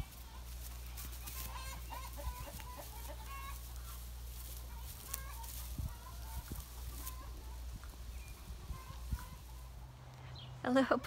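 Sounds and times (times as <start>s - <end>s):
chickens clucking: 0.0s - 10.8s
steady low hum: 0.0s - 11.0s.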